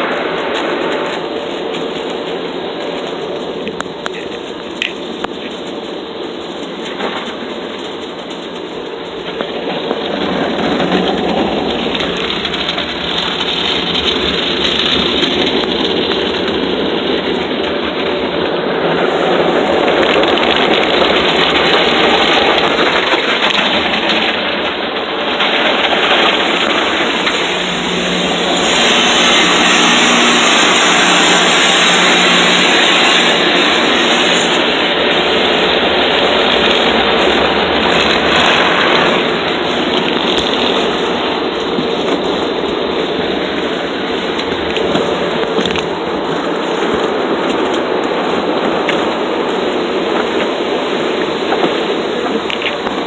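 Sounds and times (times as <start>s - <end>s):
car wash water spraying: 0.0s - 53.0s.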